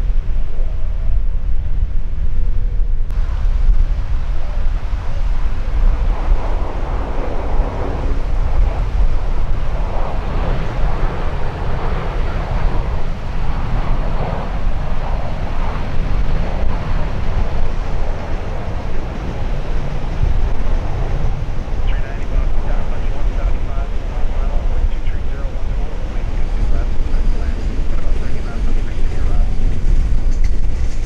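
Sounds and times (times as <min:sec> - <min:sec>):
jet airliner engine: 0:00.0 - 0:31.0
wind buffeting microphone: 0:00.0 - 0:31.0.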